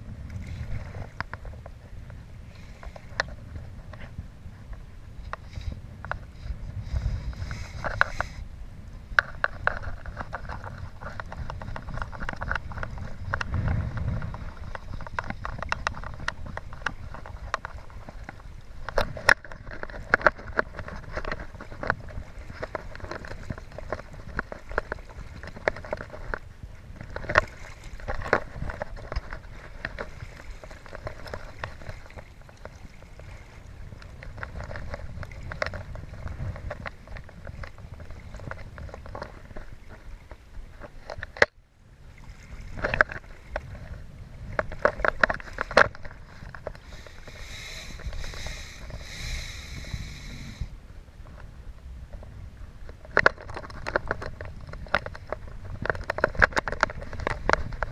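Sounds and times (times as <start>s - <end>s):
river water splashing and gurgling: 0.0s - 51.5s.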